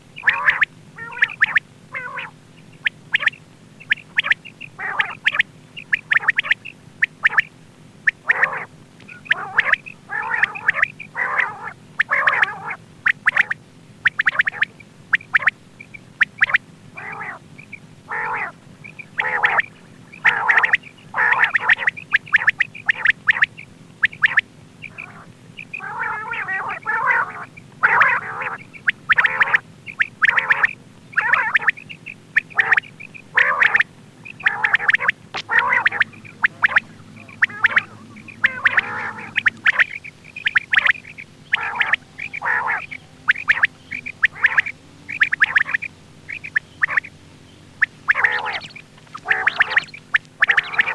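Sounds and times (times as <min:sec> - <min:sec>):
quail calling: 0:00.0 - 0:50.9
steady low hum: 0:00.0 - 0:50.9.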